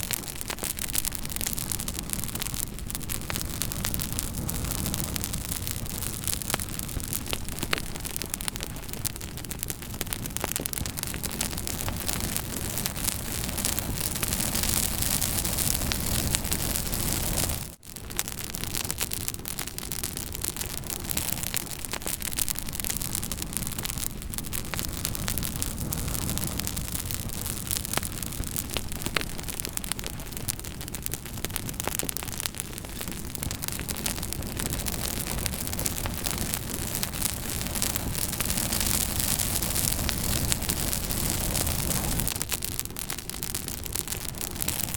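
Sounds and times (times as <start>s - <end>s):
campfire crackling and popping: 0.0s - 44.9s
fire hissing: 0.0s - 44.9s.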